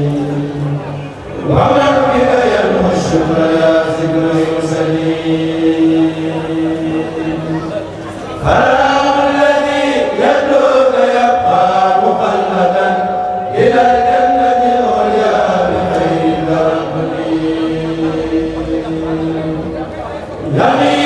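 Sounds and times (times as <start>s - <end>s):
group of voices chanting: 1.3s - 21.0s.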